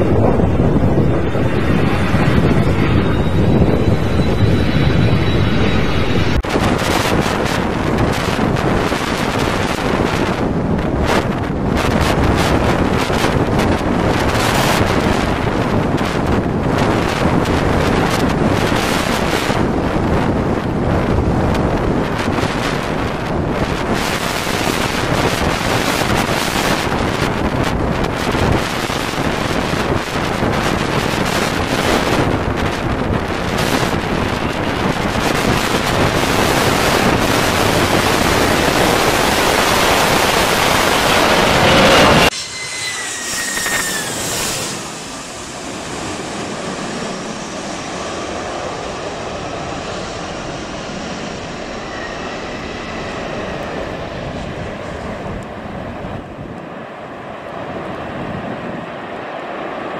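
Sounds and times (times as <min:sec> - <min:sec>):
jet engines roaring with whine: 0:00.0 - 0:59.9
wind buffeting microphone: 0:00.0 - 0:59.9.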